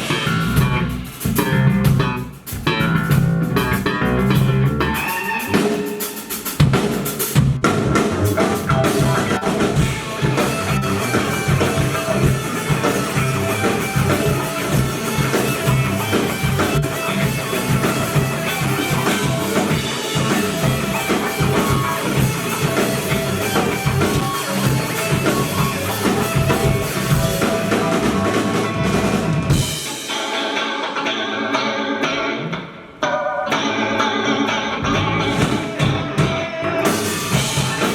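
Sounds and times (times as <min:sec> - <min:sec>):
drum kit: 0:00.0 - 0:31.1, 0:33.5 - 0:37.9
live rock band playing: 0:00.0 - 0:37.9.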